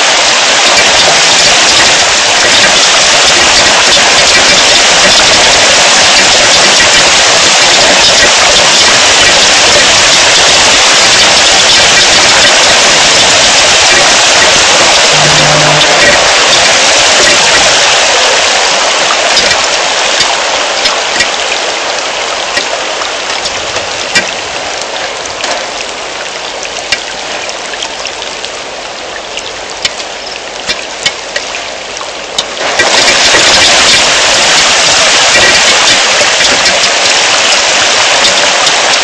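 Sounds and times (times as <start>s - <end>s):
heavy rain pouring: 0.0s - 39.0s
raindrops ticking close by: 0.0s - 39.0s.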